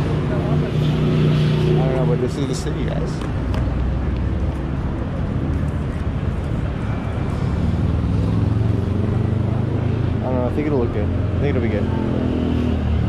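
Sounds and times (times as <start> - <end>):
street noise: 0.0 - 13.0
vehicle engines running: 0.0 - 13.0.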